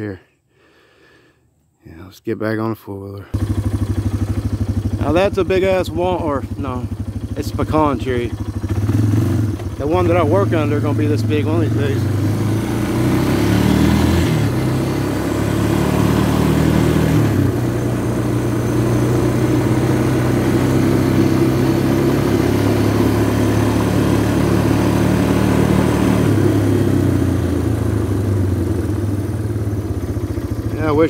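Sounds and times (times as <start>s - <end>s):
atv engine running: 3.3s - 31.0s.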